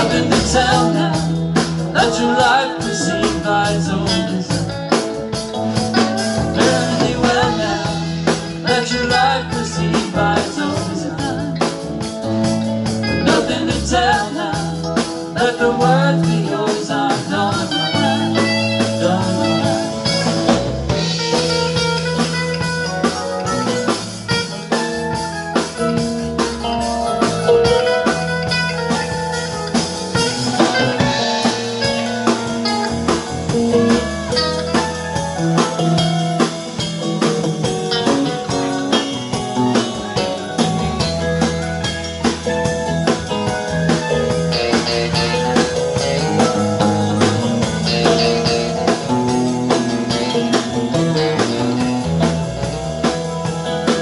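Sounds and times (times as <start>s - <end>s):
electric guitar line bending: 0.0s - 54.0s
live rock band playing: 0.0s - 54.0s.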